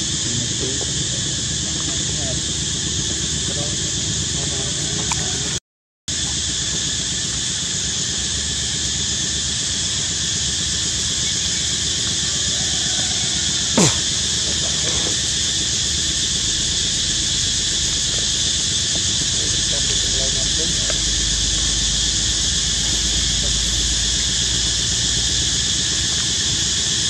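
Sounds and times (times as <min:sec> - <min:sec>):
insect chorus droning: 0:00.0 - 0:27.0.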